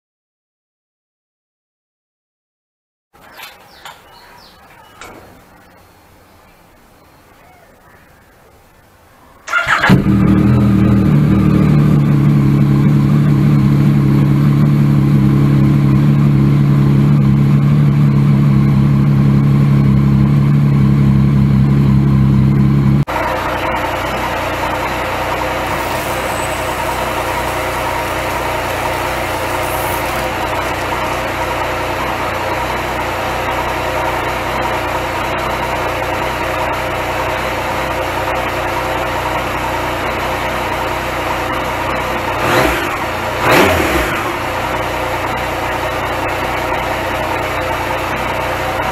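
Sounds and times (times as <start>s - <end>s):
motorcycle engine idling: 3.2s - 5.9s, 9.4s - 48.9s.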